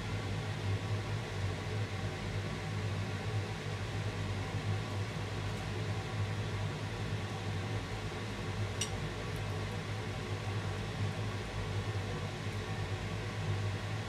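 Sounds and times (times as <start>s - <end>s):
fan humming and hissing: 0.0s - 14.0s.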